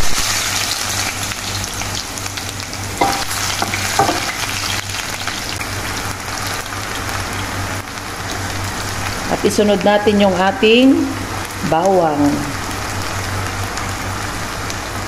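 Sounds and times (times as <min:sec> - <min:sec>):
ginger sizzling in hot oil: 0:00.0 - 0:15.0.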